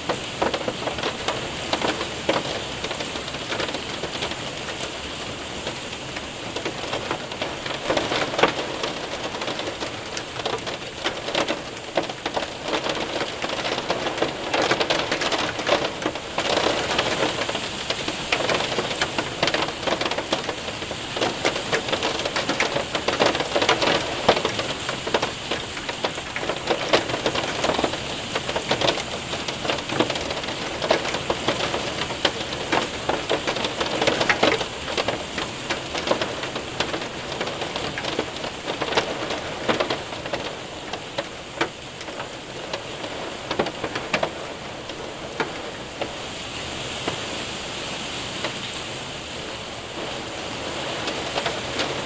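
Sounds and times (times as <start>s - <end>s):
hailstones ticking: 0.0s - 47.3s, 49.9s - 52.0s
heavy rain on window: 0.0s - 52.0s.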